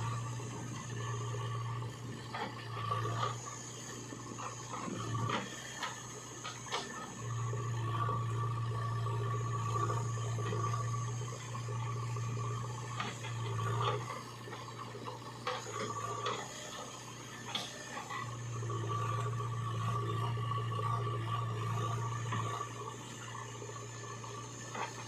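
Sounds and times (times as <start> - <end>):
heavy diesel machinery droning: 0.0 - 25.0.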